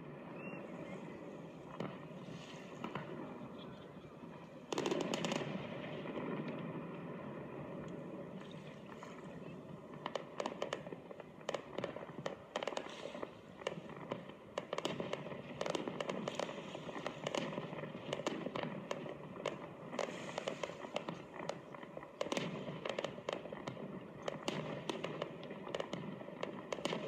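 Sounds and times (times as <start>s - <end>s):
fireworks crackling pops: 0.0s - 27.0s.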